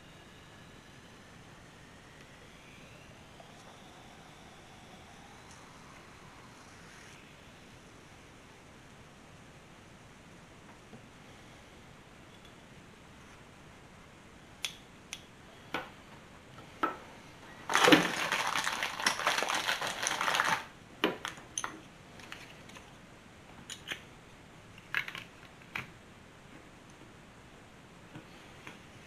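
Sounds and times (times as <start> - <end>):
dense rustling hiss: 0.0 - 29.0.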